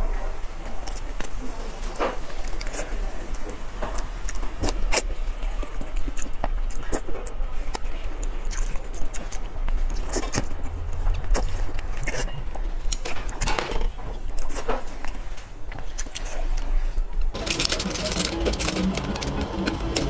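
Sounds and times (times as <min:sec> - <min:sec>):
biting and chewing: 0:02.0 - 0:20.0.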